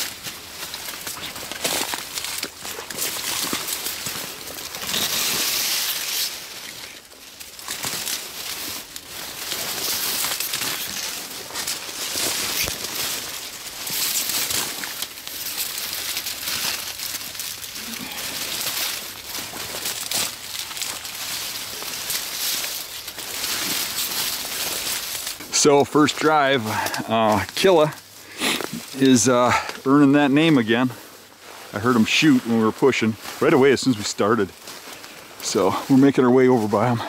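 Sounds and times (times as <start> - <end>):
dry reeds rustling and snapping: 0.0 - 37.0.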